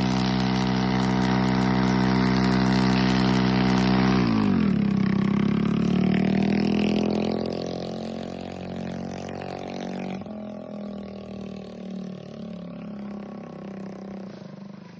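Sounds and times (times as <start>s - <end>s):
unmuffled scooter engine idling: 0.0s - 14.9s.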